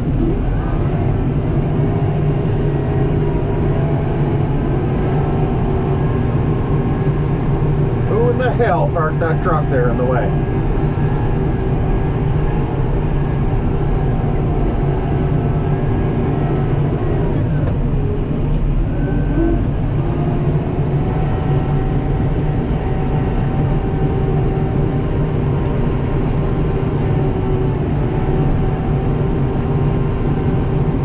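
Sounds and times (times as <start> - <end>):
tractor engine hum from cab: 0.0 - 31.0.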